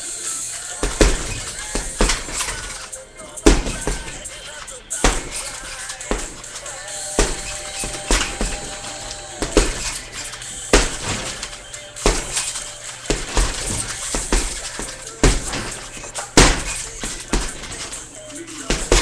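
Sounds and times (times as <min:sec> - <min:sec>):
chains jingling: 0:00.0 - 0:19.0
punches thudding on heavy bag: 0:00.8 - 0:19.0.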